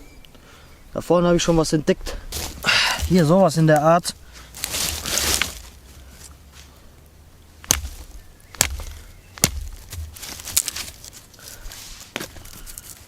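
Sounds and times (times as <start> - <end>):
twigs rustling: 1.4 - 13.0
dry wood cracking: 2.1 - 13.0.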